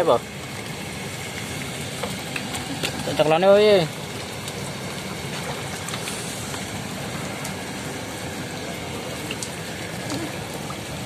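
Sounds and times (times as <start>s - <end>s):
rain on pond surface: 0.0s - 11.0s.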